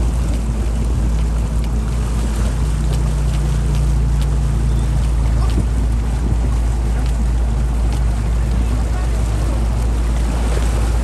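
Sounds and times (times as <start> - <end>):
motorboat engine humming: 0.0 - 11.0
water rushing past hull: 0.0 - 11.0
wind buffeting microphone: 0.0 - 11.0.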